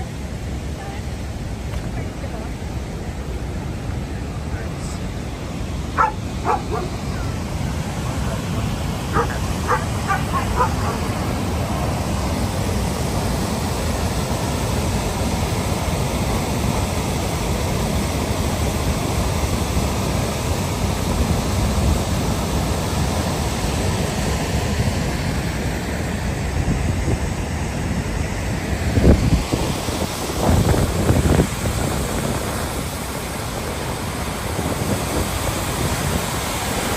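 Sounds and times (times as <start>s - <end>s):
waterfall and rapids rushing: 0.0s - 36.9s.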